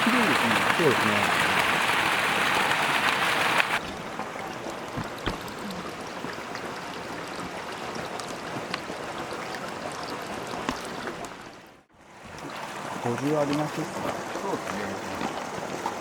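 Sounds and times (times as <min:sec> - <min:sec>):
flowing water: 0:00.0 - 0:16.0.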